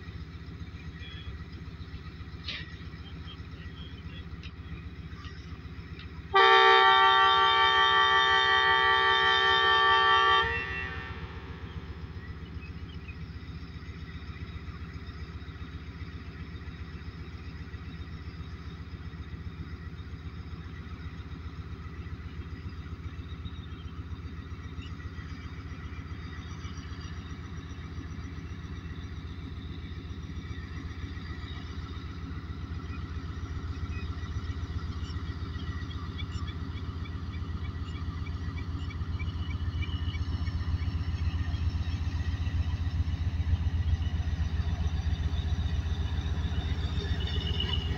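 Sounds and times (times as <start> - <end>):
diesel locomotive engine running: 0.0 - 47.9.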